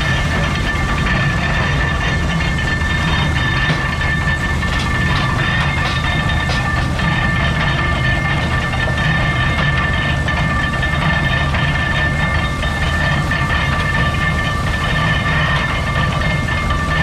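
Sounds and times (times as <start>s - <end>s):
baler mechanical clatter: 0.0s - 17.0s
high-pitched machine whine: 0.0s - 17.0s.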